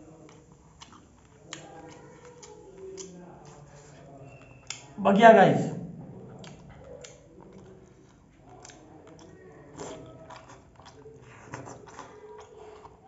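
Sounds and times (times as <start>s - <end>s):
person chewing food: 0.0s - 5.0s, 6.2s - 13.0s.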